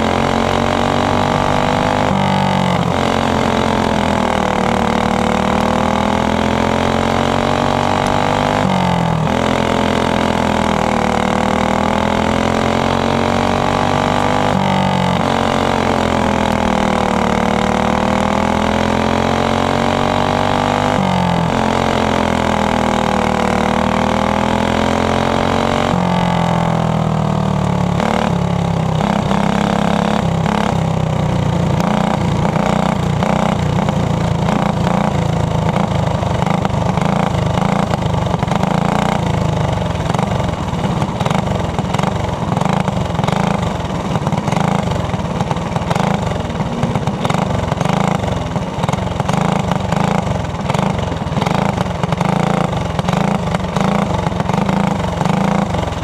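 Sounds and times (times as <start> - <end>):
go-kart engine at race speed: 0.0 - 56.0.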